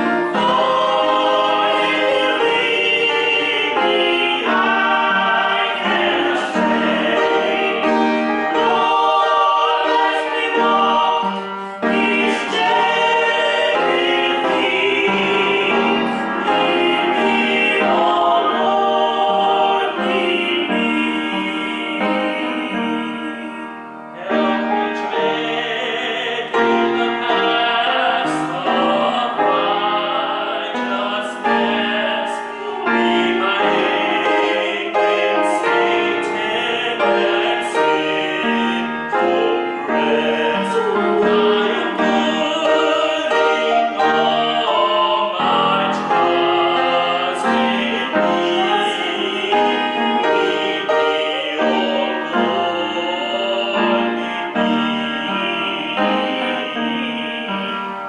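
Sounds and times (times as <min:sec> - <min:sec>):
men singing: 0:00.0 - 0:58.0
piano accompaniment: 0:00.0 - 0:58.0.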